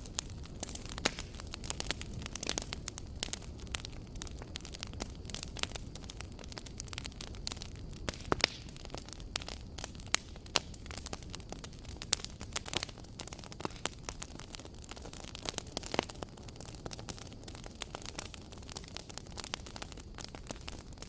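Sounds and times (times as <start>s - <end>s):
burning wood popping and snapping: 0.0s - 21.0s
low rumble of flames: 0.0s - 21.0s.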